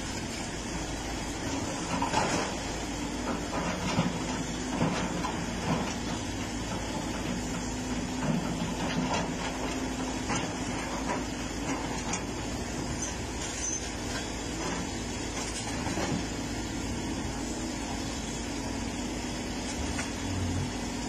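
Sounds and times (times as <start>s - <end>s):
excavator diesel engine under load: 0.0s - 21.0s.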